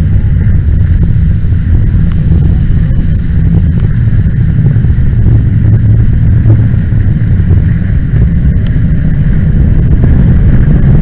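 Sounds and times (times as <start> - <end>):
fire hose water roar: 0.0 - 11.0.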